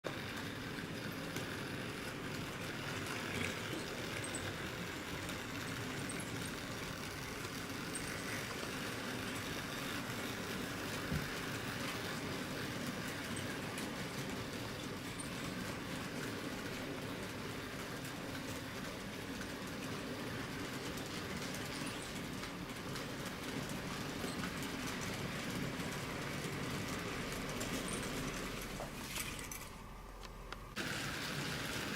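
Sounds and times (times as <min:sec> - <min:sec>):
model train wheels rumbling on rails: 0:00.0 - 0:31.9.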